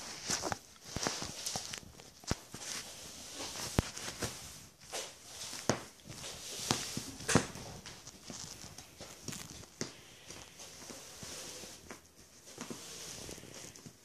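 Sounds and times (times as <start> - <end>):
rustling and scratching fabric: 0.0 - 14.0.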